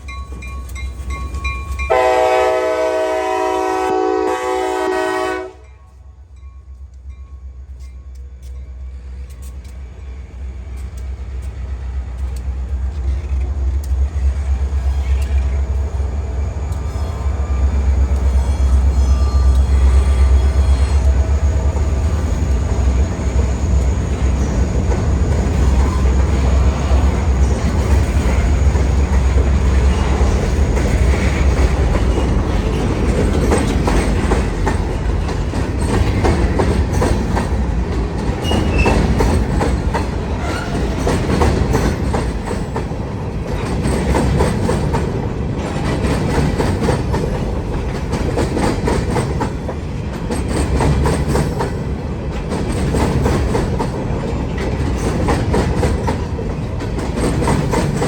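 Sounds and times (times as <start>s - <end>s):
freight train rumble: 0.0s - 58.0s
train wheels clicking over rail joints: 6.3s - 58.0s.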